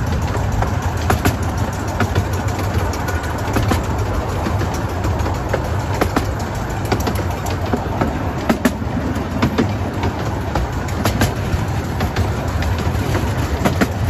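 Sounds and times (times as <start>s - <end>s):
train wheels rumbling: 0.0s - 14.0s
wheels clicking over rails: 0.0s - 14.0s.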